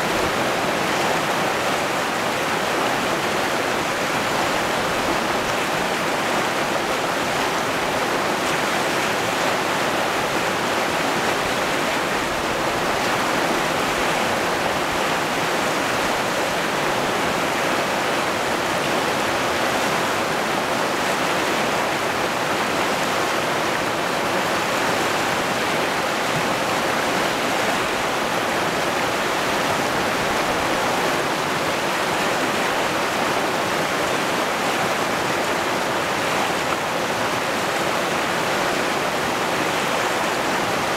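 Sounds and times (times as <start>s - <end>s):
river rapids rushing over rocks: 0.0s - 40.9s.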